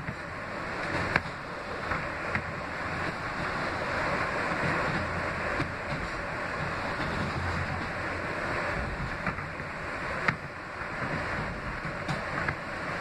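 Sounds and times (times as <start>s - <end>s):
sharp clicks of rails: 0.0s - 13.0s
train wheels rumbling on rail: 0.0s - 13.0s.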